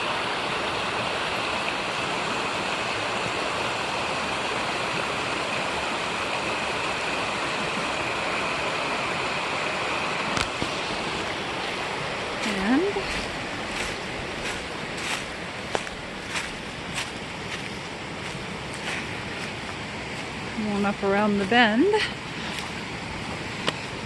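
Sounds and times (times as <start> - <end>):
waterfall rushing into creek: 0.0 - 24.0.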